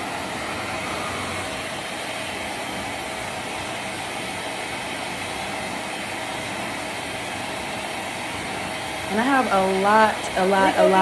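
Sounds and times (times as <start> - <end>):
hair dryer rushing air and hum: 0.0 - 11.0.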